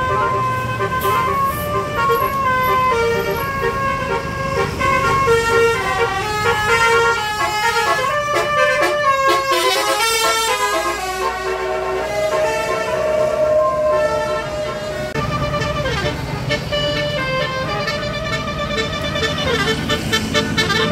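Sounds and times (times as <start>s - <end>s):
engine and traffic rumble: 0.0s - 20.9s
multi-tone bus horn melody: 0.0s - 20.9s.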